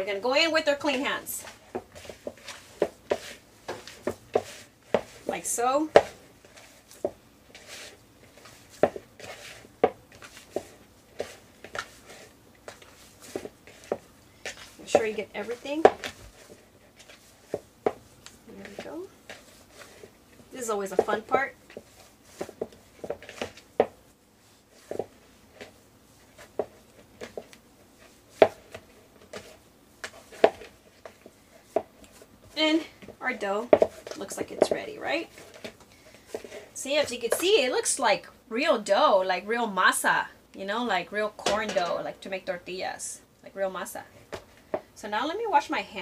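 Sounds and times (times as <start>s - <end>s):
dough squishing and rubbing: 0.0s - 38.0s.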